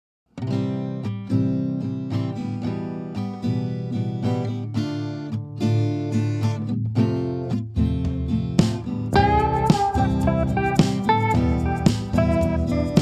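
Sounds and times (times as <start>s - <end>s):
strummed acoustic guitar: 0.3s - 13.0s.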